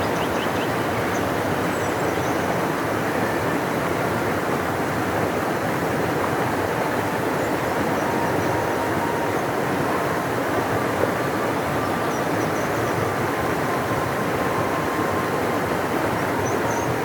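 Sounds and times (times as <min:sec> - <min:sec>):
river rushing: 0:00.1 - 0:17.0.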